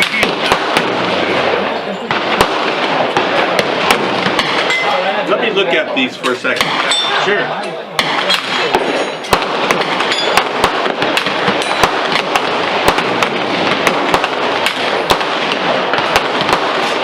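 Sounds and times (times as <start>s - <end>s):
gunshots: 0.0s - 5.2s, 6.5s - 17.0s.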